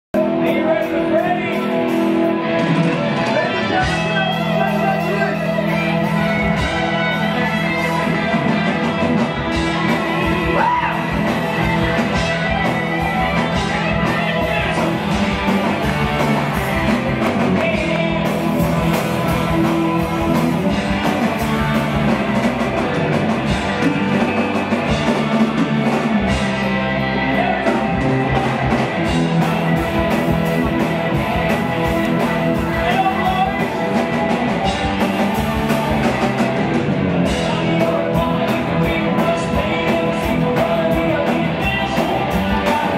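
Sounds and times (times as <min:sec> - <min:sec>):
bass guitar: 0:00.1 - 0:42.9
keyboards: 0:00.1 - 0:42.9
man singing: 0:00.2 - 0:22.1, 0:27.1 - 0:28.1, 0:30.8 - 0:42.9
drum kit: 0:00.2 - 0:42.9.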